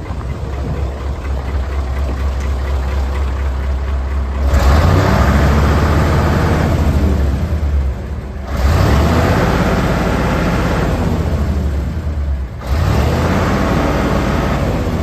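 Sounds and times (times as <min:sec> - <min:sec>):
diesel truck engine idling and revving: 0:00.0 - 0:15.0.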